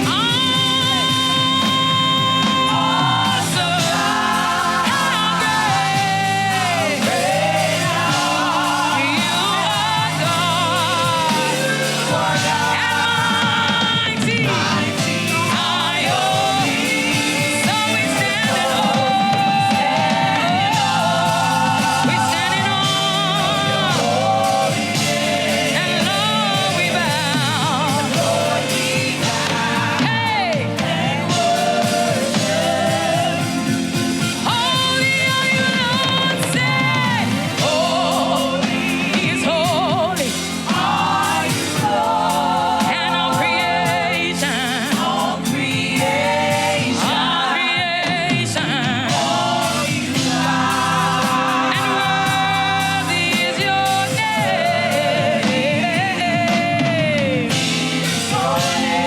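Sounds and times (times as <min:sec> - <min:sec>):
accompanying instruments: 0:00.0 - 0:59.0
woman singing gospel: 0:00.0 - 0:59.0.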